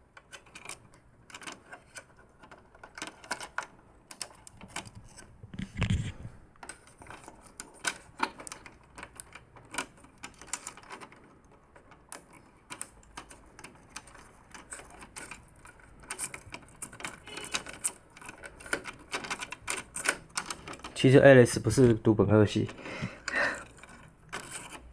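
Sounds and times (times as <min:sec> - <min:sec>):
hard plastic parts clicking: 0:00.1 - 0:24.9.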